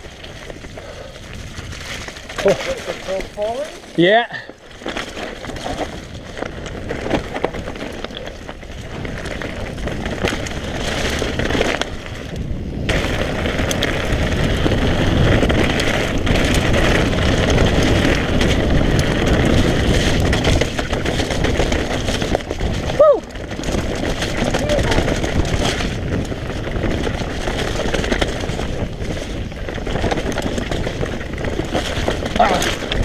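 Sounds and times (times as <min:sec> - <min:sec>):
bike clicks and rattles: 0:00.0 - 0:33.0
wind and tyre noise: 0:00.0 - 0:33.0.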